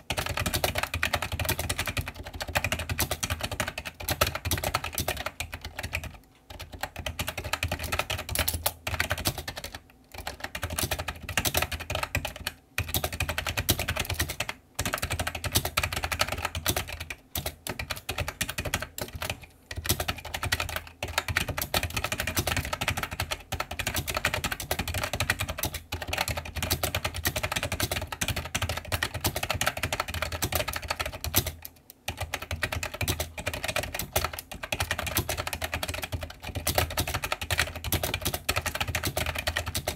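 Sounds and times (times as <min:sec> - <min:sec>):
keyboard typing clacks: 0:00.0 - 0:39.9.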